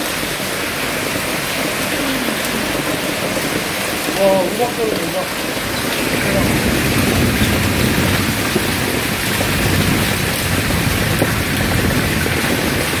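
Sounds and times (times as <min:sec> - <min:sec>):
torrential rain pouring: 0:00.0 - 0:13.0.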